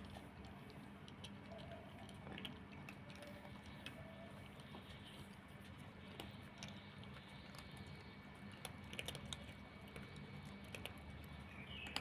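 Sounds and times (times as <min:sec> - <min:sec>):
cats crunching dry kibble: 0:00.0 - 0:12.0
low steady hum: 0:00.0 - 0:12.0.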